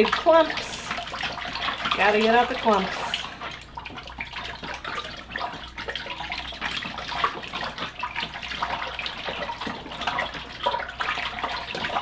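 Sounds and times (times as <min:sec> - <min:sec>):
hand stirring pulp in water: 0:00.0 - 0:12.0.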